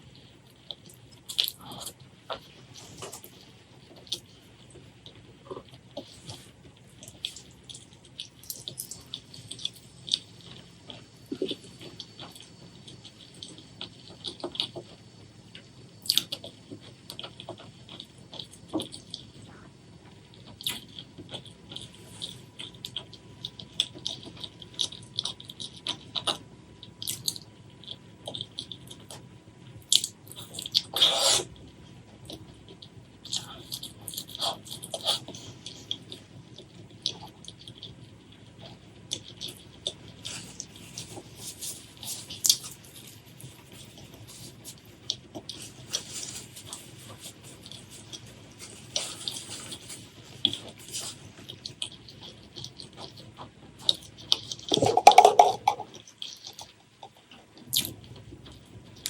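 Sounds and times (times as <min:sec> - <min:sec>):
wet chewing and smacking: 0:00.0 - 0:59.0.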